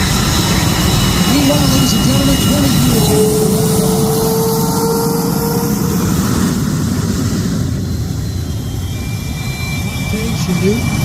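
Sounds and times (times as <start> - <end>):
faint jet engine whine: 0.0 - 11.0
jet engines low rumble: 0.0 - 11.0.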